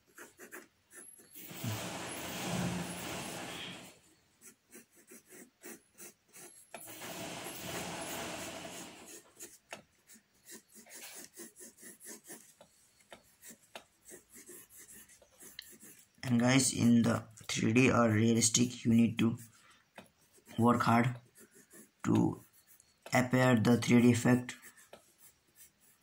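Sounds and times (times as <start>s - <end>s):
pencil rubbing across paper: 0.0s - 17.0s, 18.2s - 26.0s
pencil scratching on paper: 0.0s - 26.0s.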